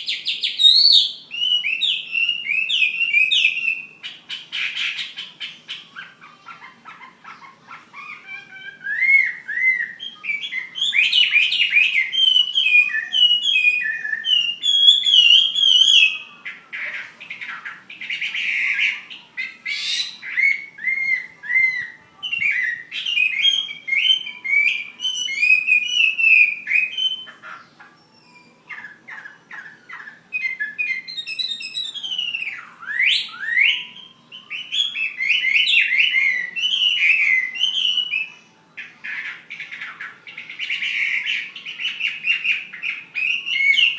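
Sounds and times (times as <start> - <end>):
bird singing whistled phrases: 0.0 - 6.2, 8.0 - 43.9.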